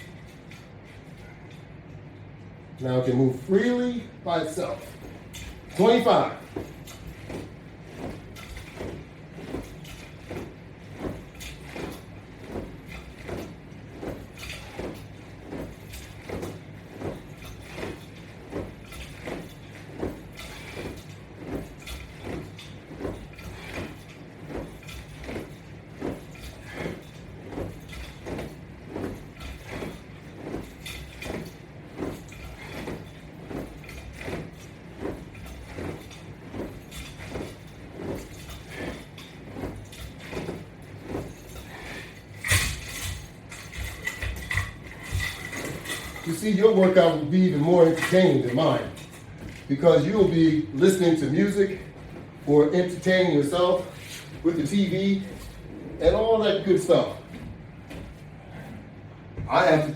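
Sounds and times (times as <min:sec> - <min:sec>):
steady low hum: 0:00.0 - 0:59.9
resistance band rubbing and creaking: 0:03.0 - 0:59.9.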